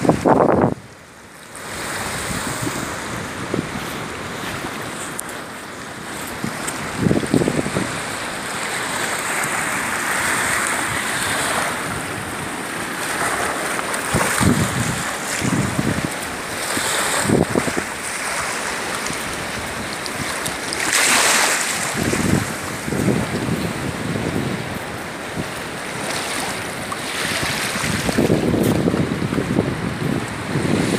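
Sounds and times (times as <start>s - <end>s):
wind buffeting microphone: 0.0s - 1.0s, 1.7s - 5.3s, 6.0s - 30.9s
surf washing on shore: 0.0s - 30.9s.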